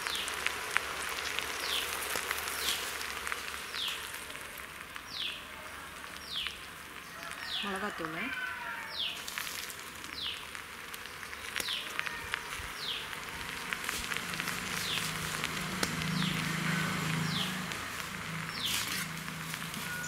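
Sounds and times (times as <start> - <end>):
insect buzzing near microphone: 0.0 - 20.0
steady hiss: 0.0 - 20.0.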